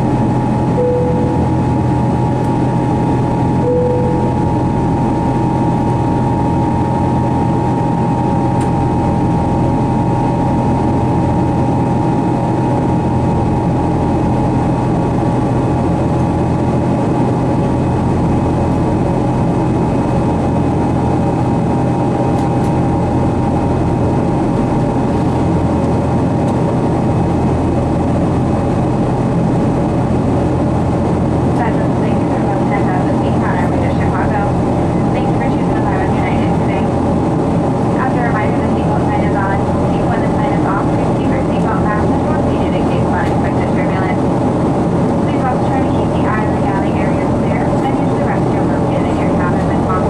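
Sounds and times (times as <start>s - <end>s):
airplane cabin roar: 0.0s - 50.0s
engine hum: 0.0s - 50.0s.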